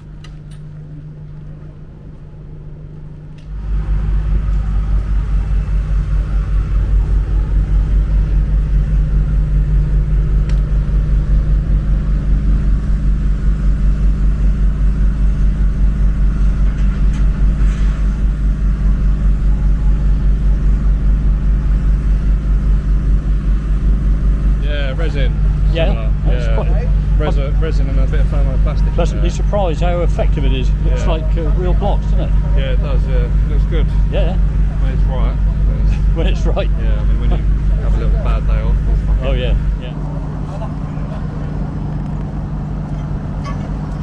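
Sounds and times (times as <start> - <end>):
small engine running: 3.5 - 44.0.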